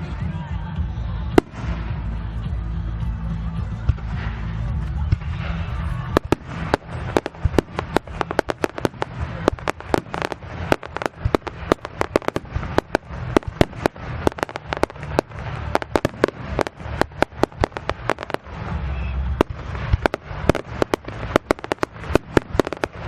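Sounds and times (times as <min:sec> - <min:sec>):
fireworks bangs and pops: 0:01.3 - 0:23.0.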